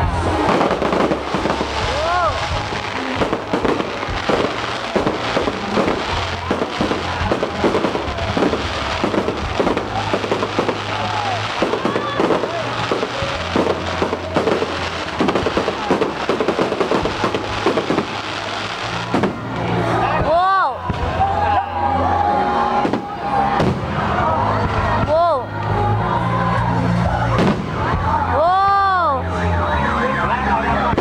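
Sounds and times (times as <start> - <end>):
fireworks bursting and crackling: 0.0 - 21.3, 22.2 - 25.2, 27.3 - 28.3
music with steady bass: 0.0 - 31.0.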